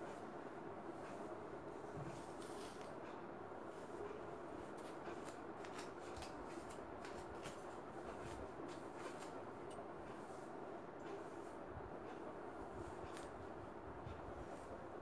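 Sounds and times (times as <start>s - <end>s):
comb scratching through hair: 0.9s - 15.0s.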